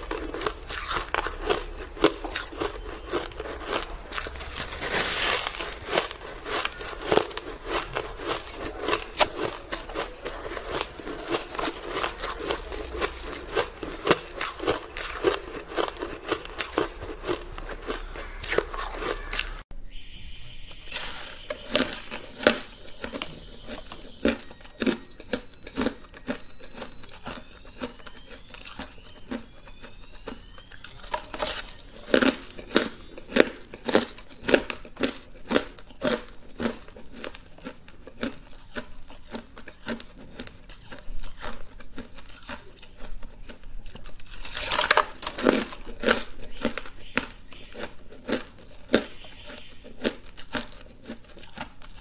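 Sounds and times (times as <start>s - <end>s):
crunching and chewing shaved ice: 0.0s - 19.7s, 20.6s - 52.0s.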